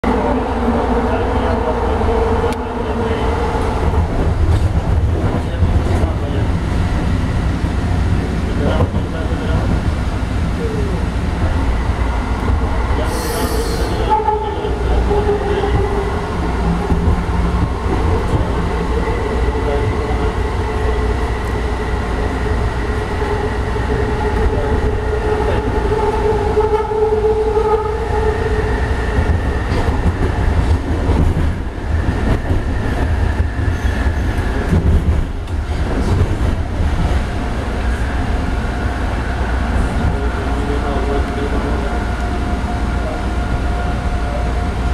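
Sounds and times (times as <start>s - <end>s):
train low rumble: 0.0s - 44.9s.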